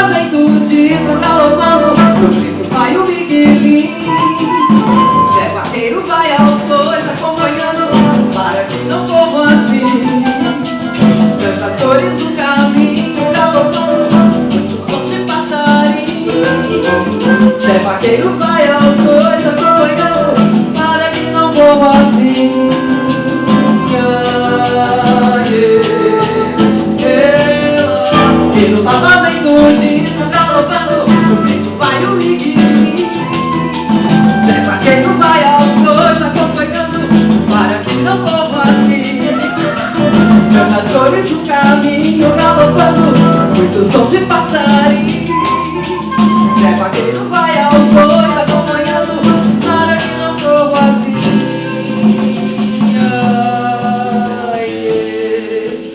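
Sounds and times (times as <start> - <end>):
person singing: 0.0 - 55.9
plucked guitar: 0.0 - 55.9
shaker beat: 0.0 - 55.9.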